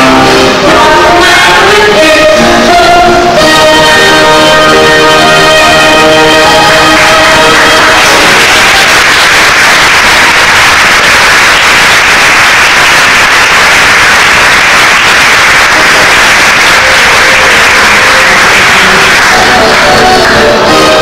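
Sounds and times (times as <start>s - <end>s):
show music: 0.0s - 21.0s
audience applauding: 4.0s - 21.0s.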